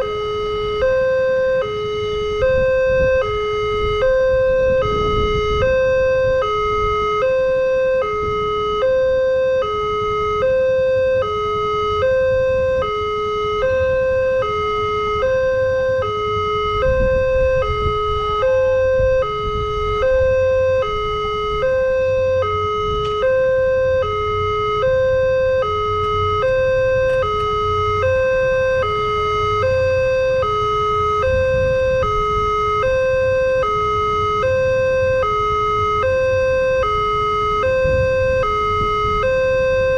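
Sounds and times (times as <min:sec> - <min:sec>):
two-tone level crossing siren: 0:00.0 - 0:39.9.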